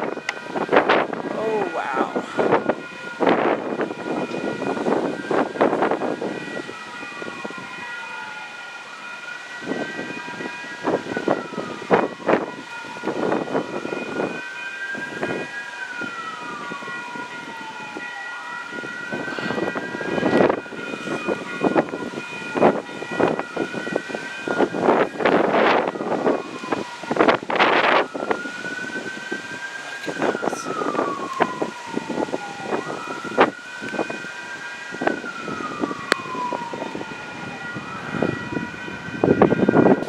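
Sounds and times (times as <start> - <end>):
wind gusts buffeting microphone: 0.0 - 8.4, 9.6 - 40.0
siren wailing: 0.0 - 40.0.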